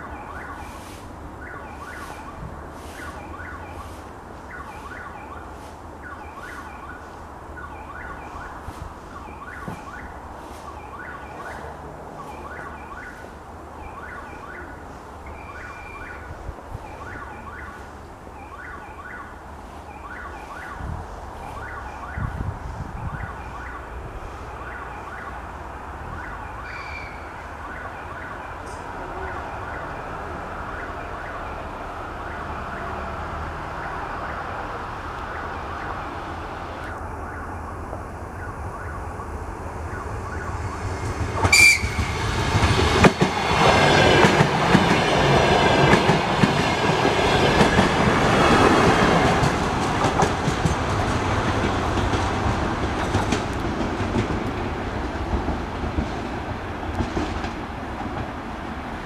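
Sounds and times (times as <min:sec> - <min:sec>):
train rushing past on rails: 0:00.0 - 0:59.0.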